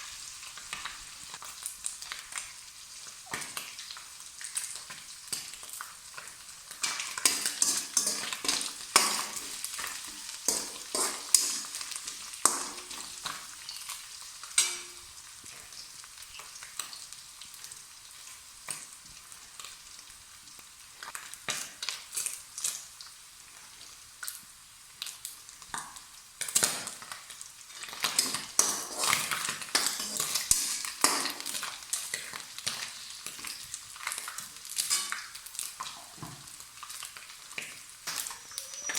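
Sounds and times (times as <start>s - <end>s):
spatula stirring and scraping pan: 0.0s - 18.9s, 26.4s - 38.9s
food sizzling in hot oil: 0.0s - 38.9s.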